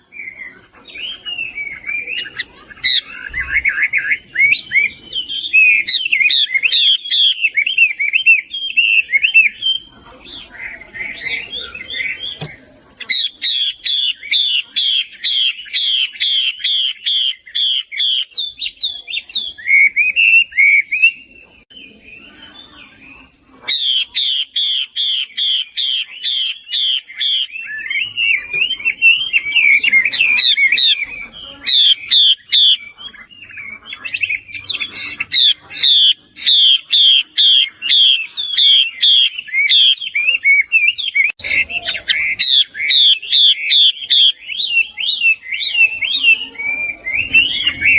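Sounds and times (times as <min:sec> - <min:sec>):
bird singing whistled notes: 0:00.0 - 0:47.9.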